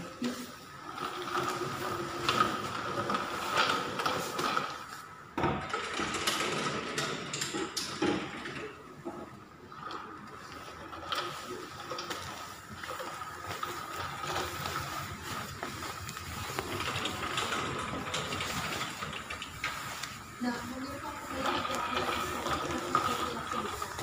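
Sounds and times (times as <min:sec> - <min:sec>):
medical supplies rattling and clicking: 0:00.0 - 0:24.0.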